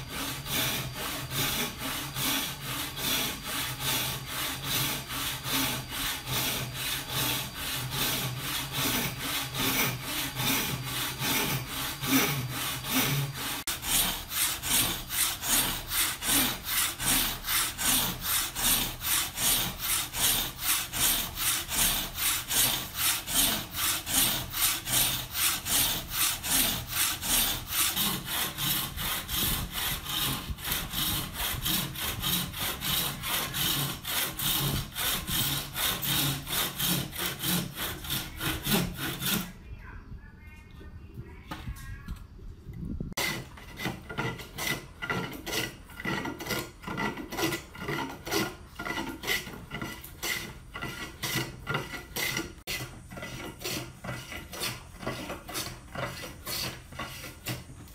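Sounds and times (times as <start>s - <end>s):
saw cutting through wood: 0.0s - 39.6s, 43.2s - 57.9s.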